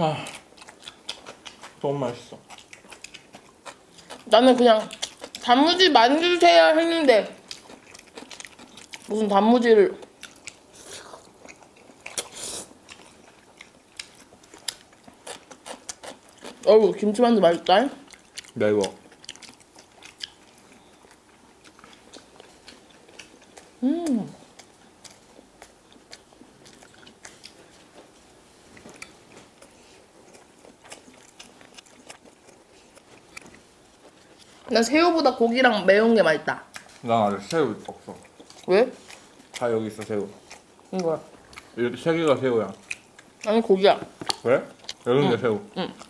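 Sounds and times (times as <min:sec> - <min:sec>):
chewing with wet mouth clicks: 0:00.2 - 0:05.6, 0:07.1 - 0:16.7, 0:17.4 - 0:34.7, 0:36.5 - 0:45.1.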